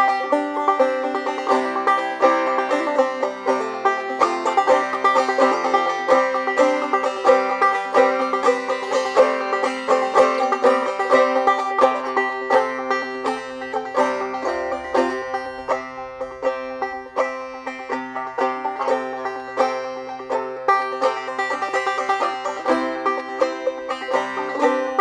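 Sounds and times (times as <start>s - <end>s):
banjo playing a tune: 0.0s - 25.0s.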